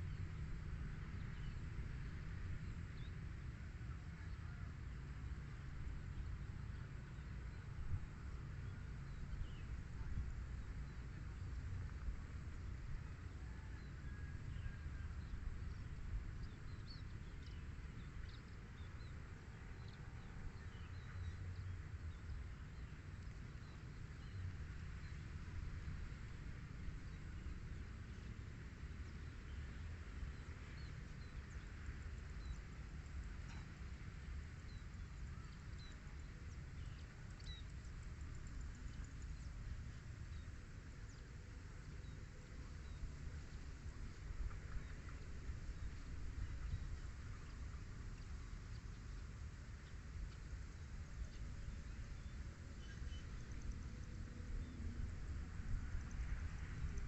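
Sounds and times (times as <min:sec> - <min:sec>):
low outdoor rumble: 0:00.0 - 0:57.0
small birds chirping faintly: 0:00.0 - 0:57.0.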